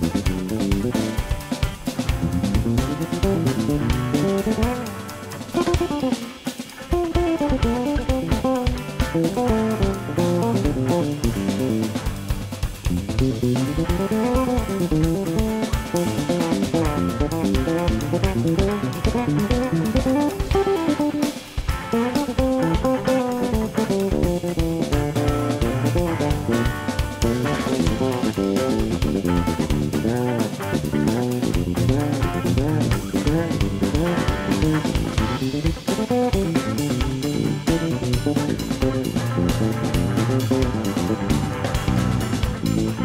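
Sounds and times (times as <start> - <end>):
drum kit: 0.0 - 43.0
electric bass: 0.0 - 43.0
electric guitar: 0.0 - 43.0.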